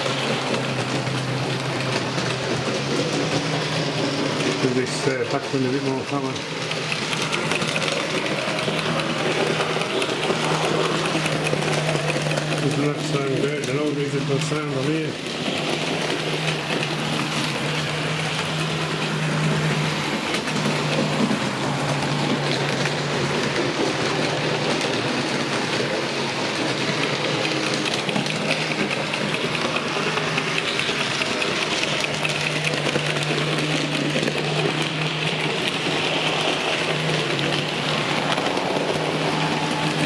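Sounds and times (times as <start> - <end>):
small electric motors whirring: 0.0 - 40.0
wheels over rail joints: 0.0 - 40.0.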